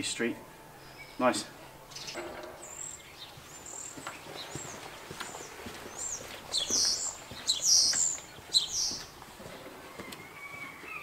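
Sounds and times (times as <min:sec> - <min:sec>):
small birds chirping: 0:00.7 - 0:11.0.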